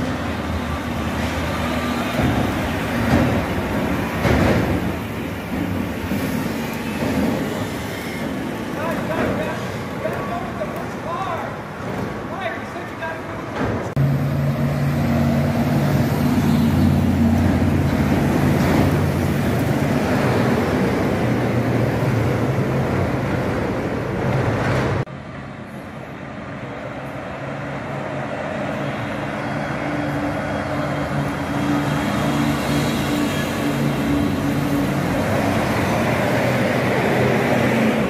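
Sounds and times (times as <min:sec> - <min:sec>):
road noise: 0:00.0 - 0:38.0
vehicle engines running: 0:00.0 - 0:38.0.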